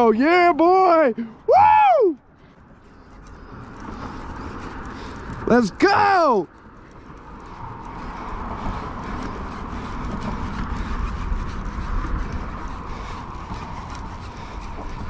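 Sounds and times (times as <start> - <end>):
wind rumbling on microphone: 1.3 - 15.0
fishing reel whirring and clicking: 1.9 - 15.0.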